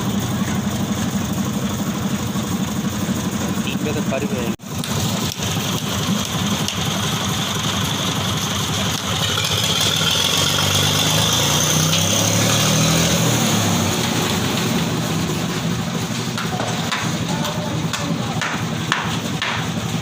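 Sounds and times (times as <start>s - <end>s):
machine engine humming with whine: 0.0s - 20.0s.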